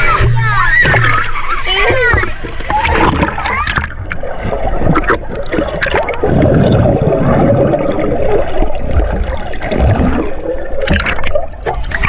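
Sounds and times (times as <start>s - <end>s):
dull underwater thumps: 0.0s - 12.0s
underwater bubbling and churning: 0.0s - 12.0s.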